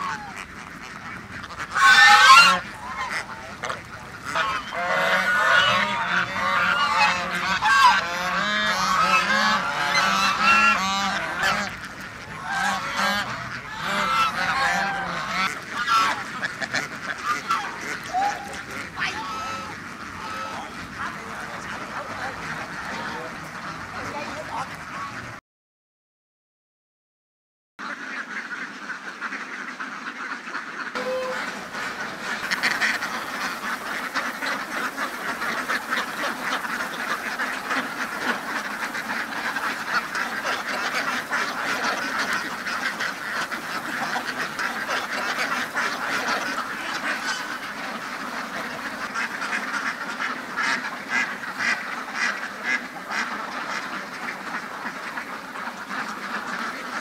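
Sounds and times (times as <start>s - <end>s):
flock of ducks quacking: 0.0s - 25.4s, 27.8s - 57.0s.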